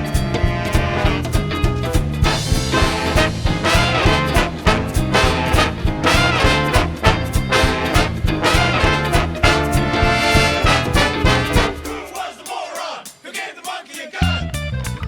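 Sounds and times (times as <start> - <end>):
big band playing swing: 0.0 - 15.0.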